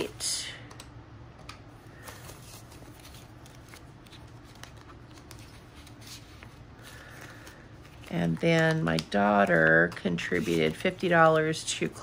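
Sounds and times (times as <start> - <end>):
paper money rustling: 1.9 - 12.0.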